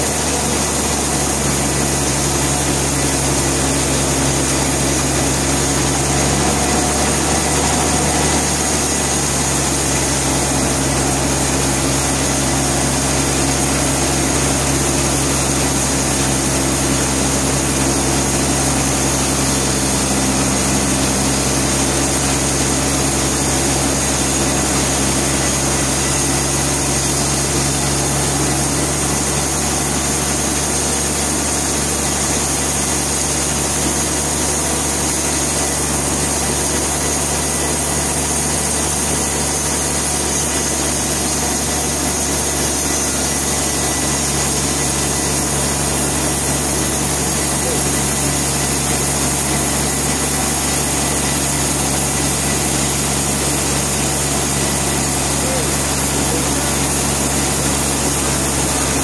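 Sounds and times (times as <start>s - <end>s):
sawmill machinery drone: 0.0s - 59.0s.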